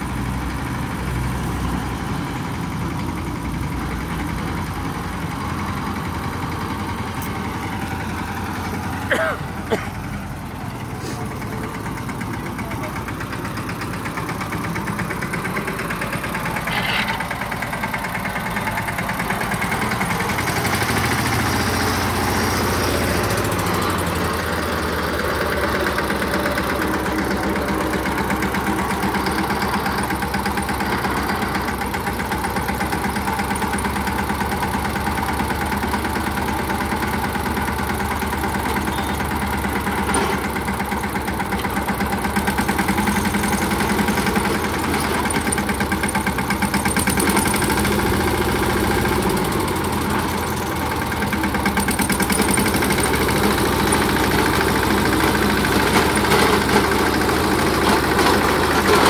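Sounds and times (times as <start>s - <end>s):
rotavator working soil: 0.0s - 59.0s
tractor engine running: 0.0s - 59.0s.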